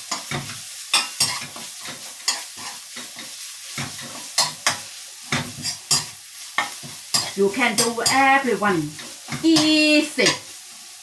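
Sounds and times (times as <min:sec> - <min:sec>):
spatula scraping pan: 0:00.0 - 0:10.5
curry paste sizzling in wok: 0:00.0 - 0:11.0.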